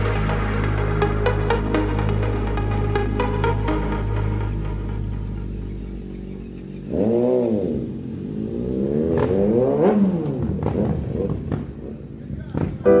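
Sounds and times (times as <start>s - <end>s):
engine revving: 0.0s - 12.5s.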